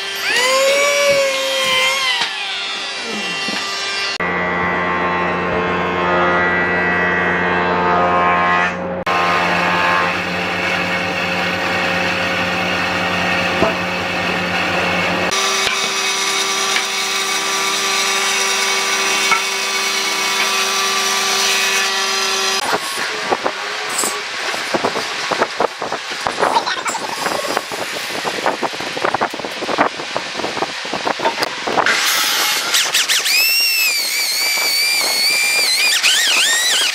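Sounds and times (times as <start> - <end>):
band saw cutting wood: 0.0 - 36.9.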